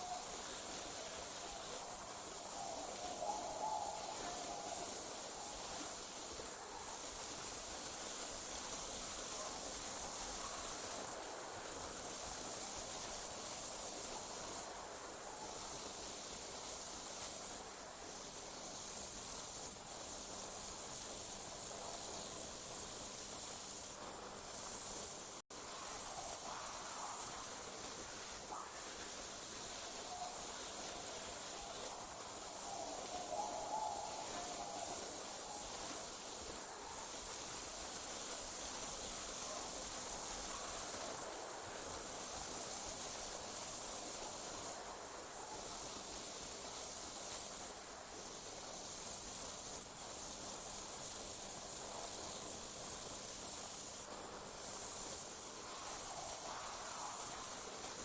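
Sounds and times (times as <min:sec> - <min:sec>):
crickets trilling: 0:00.0 - 0:14.7, 0:15.4 - 0:58.0.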